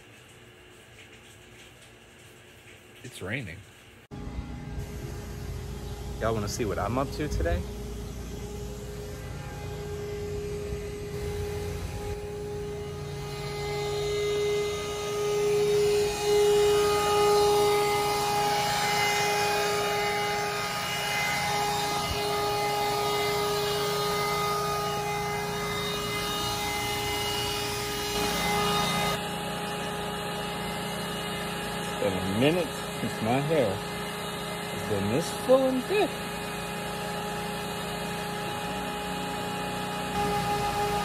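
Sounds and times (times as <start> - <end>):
vacuum cleaner sucking water: 4.8 - 41.0.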